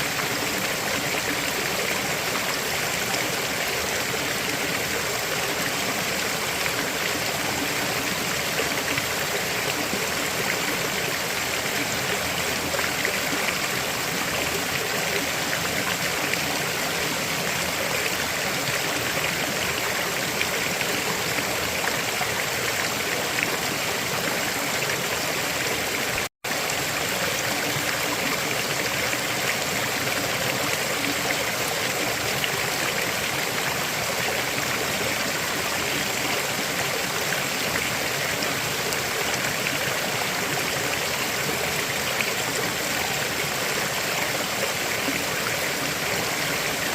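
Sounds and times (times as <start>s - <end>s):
river water flowing over rocks: 0.0s - 46.9s.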